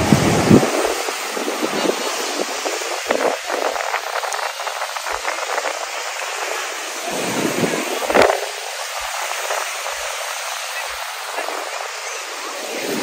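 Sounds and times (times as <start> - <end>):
distant crowd voices: 0.0 - 13.0
surf breaking on shore: 0.0 - 13.0.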